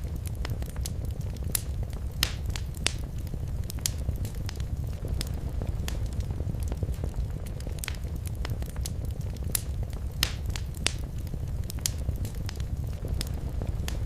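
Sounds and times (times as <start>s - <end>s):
sharp pops of burning wood: 0.0s - 14.0s
wood fire crackling: 0.0s - 14.0s.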